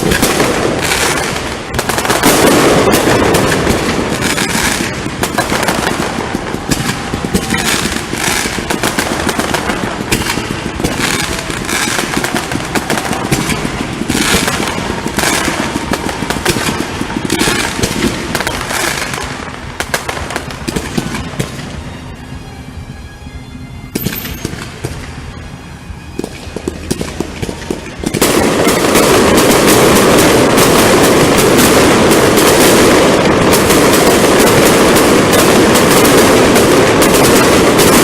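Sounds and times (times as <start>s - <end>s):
fireworks exploding with crackle: 0.0s - 22.5s, 23.9s - 38.0s.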